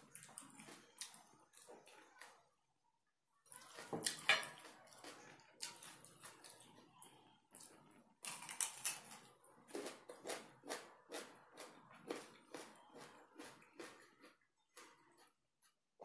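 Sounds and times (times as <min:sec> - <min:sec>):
crunchy chewing of radish: 0:00.0 - 0:02.4, 0:03.5 - 0:16.0.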